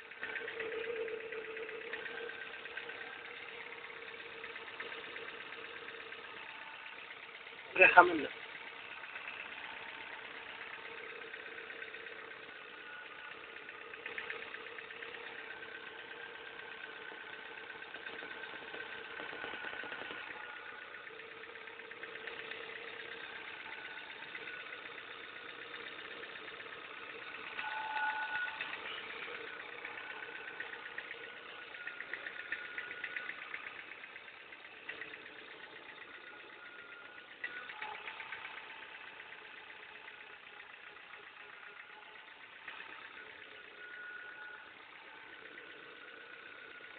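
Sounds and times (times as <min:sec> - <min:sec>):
car engine idling: 0:00.0 - 0:46.9
whine and fast ticking: 0:00.0 - 0:46.9.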